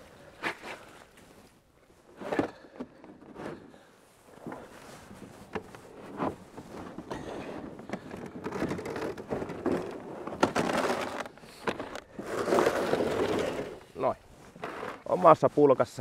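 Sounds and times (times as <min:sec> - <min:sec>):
plastic sleds scraping: 0:02.0 - 0:16.0.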